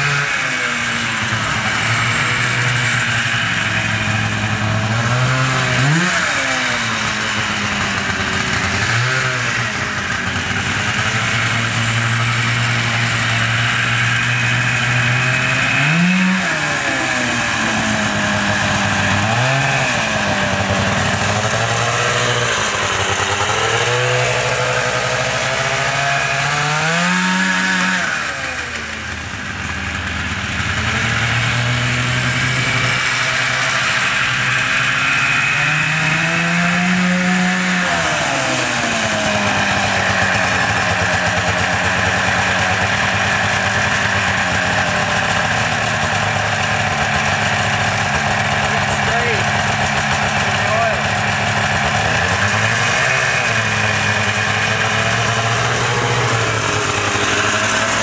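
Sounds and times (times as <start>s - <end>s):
snowmobile engine idling and revving: 0.0s - 58.0s.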